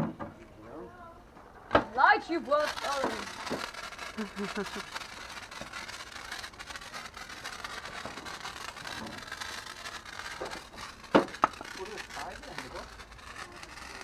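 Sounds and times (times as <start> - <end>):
sparkler fizzing and crackling: 1.4 - 14.0.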